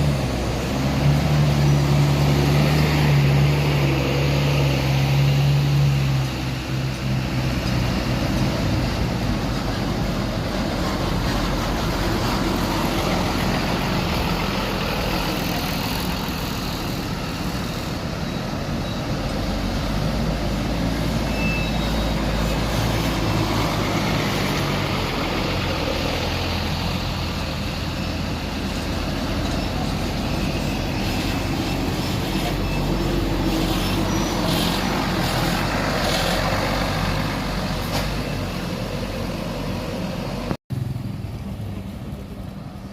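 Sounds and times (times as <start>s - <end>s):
bus diesel engine running: 0.0s - 42.9s
road noise: 0.0s - 42.9s.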